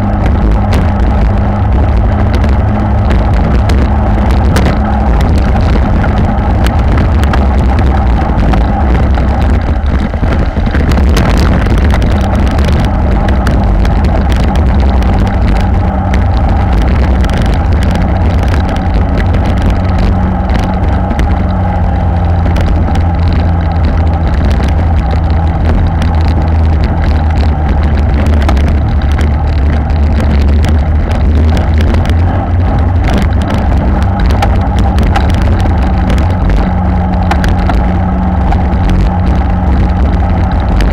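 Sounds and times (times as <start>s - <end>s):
bicycle tyres on road: 0.0s - 40.9s
wind buffeting microphone: 0.0s - 40.9s.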